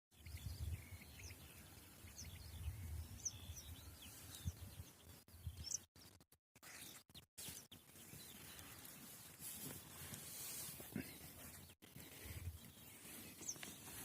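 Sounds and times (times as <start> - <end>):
wild birds chirping and calling: 0.2 - 5.8, 6.6 - 14.0.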